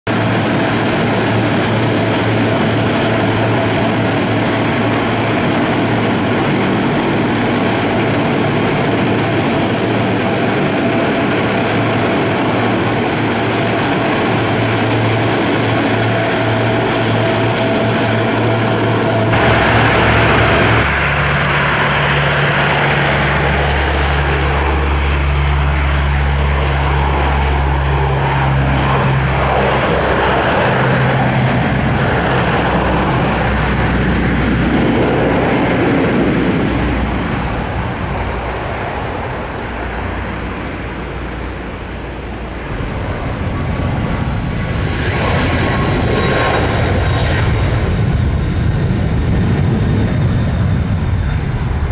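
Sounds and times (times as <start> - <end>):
deep propeller drone: 0.0 - 51.9
turboprop engine whine: 0.0 - 51.9.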